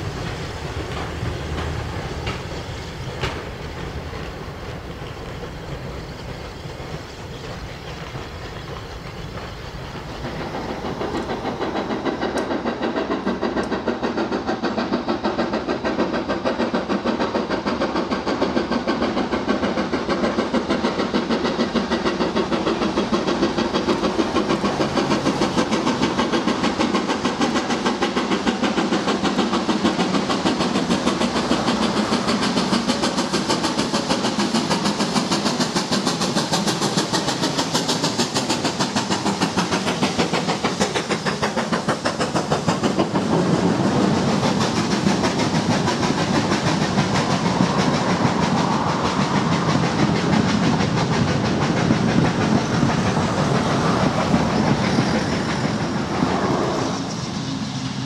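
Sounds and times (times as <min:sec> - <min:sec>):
steam locomotive exhaust beats: 0:00.0 - 0:58.0
train coaches rolling on rails: 0:00.0 - 0:58.0.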